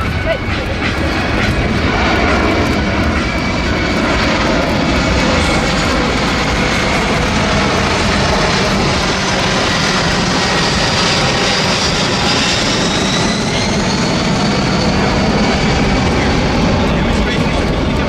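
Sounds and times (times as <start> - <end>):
jet engines roaring with high whine: 0.0 - 18.0.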